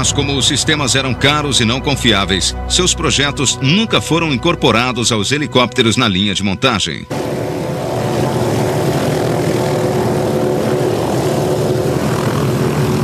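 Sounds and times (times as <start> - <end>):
aircraft engine drone: 0.0 - 5.4, 7.1 - 13.0.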